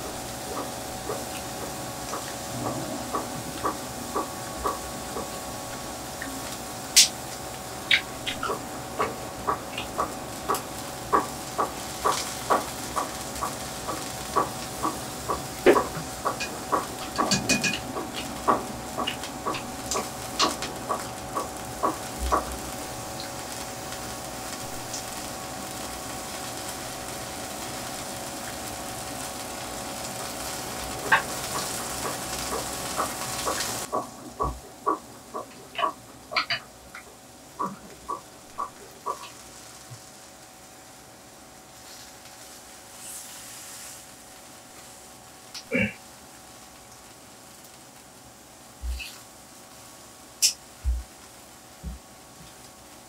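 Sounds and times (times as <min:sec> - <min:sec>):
food sizzling on grill: 0:00.0 - 0:53.0.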